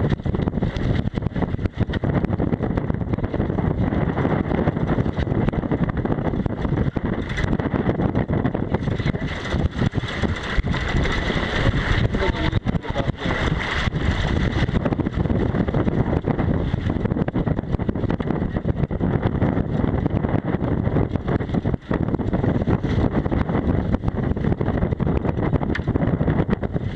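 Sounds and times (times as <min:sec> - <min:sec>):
gusty wind buffeting microphone: 0:00.0 - 0:26.9.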